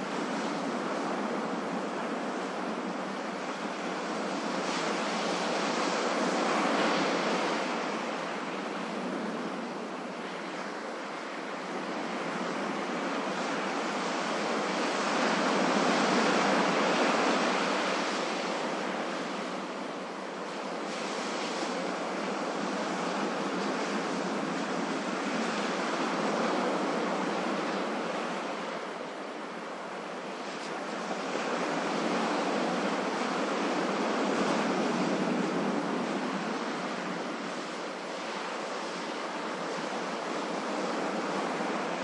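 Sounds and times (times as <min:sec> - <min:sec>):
ocean waves: 0:00.0 - 0:42.0.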